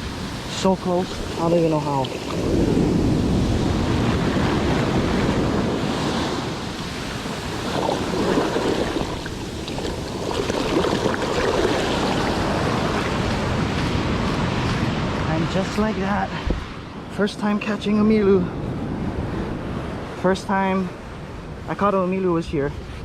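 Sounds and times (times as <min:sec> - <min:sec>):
ocean surf washing ashore: 0:00.0 - 0:23.0
wind buffeting microphone: 0:00.0 - 0:23.0.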